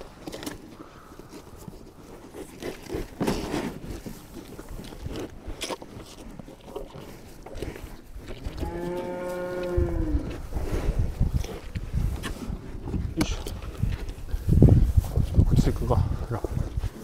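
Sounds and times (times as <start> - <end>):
cattle crunching watermelons: 0.0 - 17.0.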